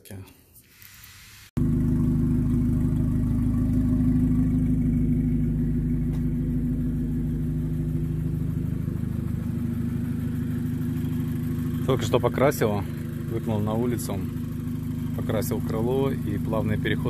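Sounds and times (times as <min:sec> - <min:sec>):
car engine idling: 0:01.6 - 0:17.0.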